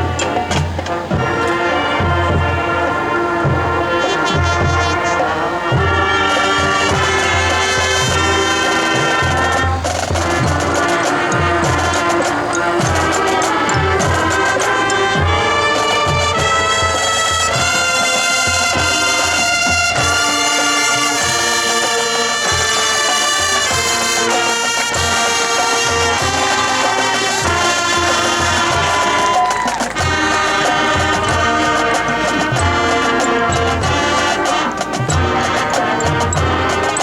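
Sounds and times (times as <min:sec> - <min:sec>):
marching band brass: 0:00.0 - 0:37.0
bass drum beats: 0:05.7 - 0:21.8, 0:22.5 - 0:37.0.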